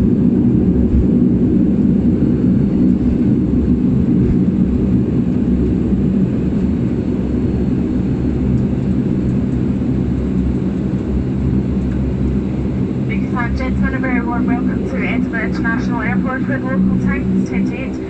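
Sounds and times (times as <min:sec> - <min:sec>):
turboprop cabin drone: 0:00.0 - 0:18.0.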